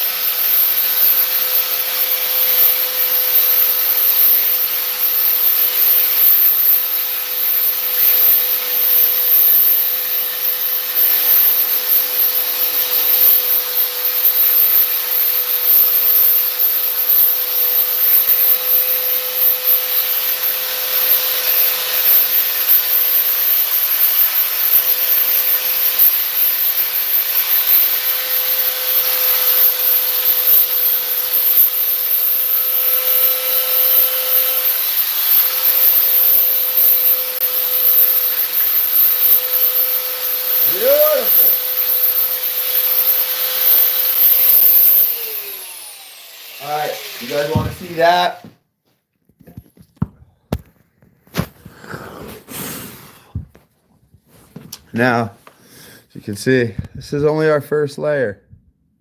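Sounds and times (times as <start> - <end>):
power sander scraping filler: 0.0 - 48.4, 51.3 - 53.7.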